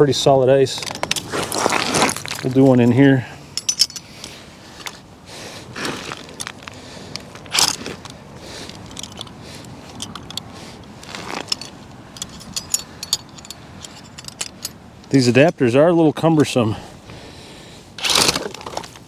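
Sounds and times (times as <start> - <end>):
metal anchor clinking and rattling: 0.6 - 5.0, 6.1 - 16.6, 18.0 - 19.0.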